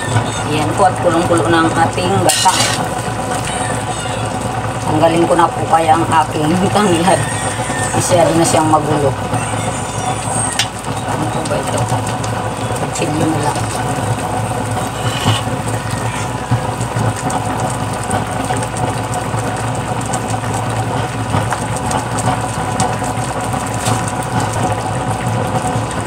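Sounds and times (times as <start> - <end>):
liquid boiling hard in wok: 0.0 - 26.0
low motor hum: 0.0 - 26.0.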